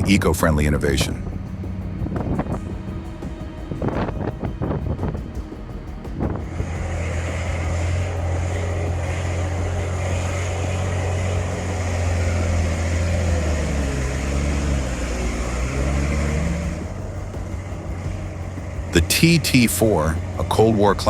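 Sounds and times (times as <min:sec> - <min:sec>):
heavy vehicle engine droning: 0:00.0 - 0:21.0.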